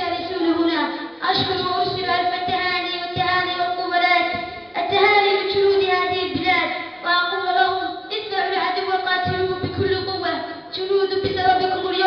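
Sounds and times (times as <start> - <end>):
girl singing: 0.0 - 12.0.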